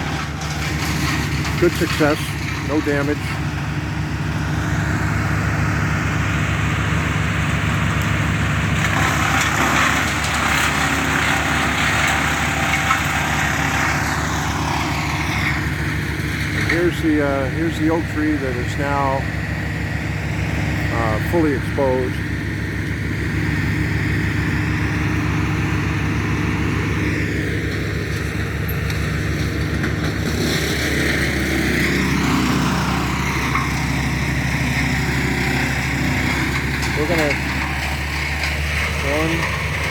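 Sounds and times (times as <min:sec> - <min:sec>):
machine engine pulsing: 0:00.0 - 0:39.9.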